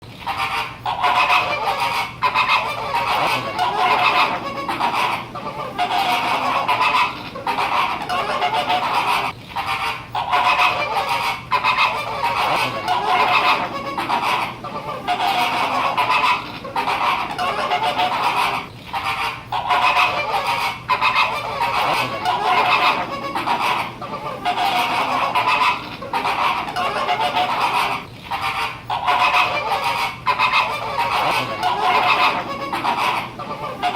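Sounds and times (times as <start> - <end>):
flamingos honking: 0.2 - 33.9.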